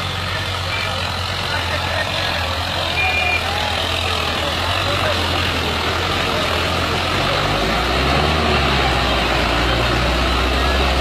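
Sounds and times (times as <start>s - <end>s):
tractor diesel engine running: 0.0s - 11.0s
tractor wading through water: 0.0s - 11.0s.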